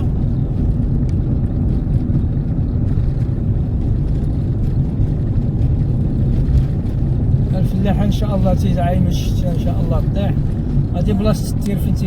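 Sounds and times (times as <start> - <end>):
vehicle road and engine noise: 0.0 - 12.0
wind on microphone: 0.0 - 12.0.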